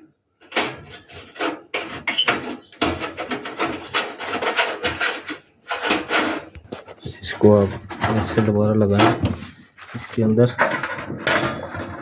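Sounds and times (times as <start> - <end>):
hands rubbing and scraping metal: 0.4 - 12.0.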